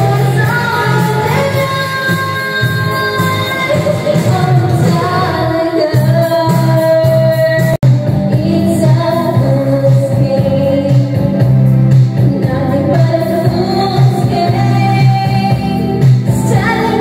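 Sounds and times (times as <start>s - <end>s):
karaoke backing music: 0.0s - 17.0s
woman singing into a microphone: 0.0s - 17.0s.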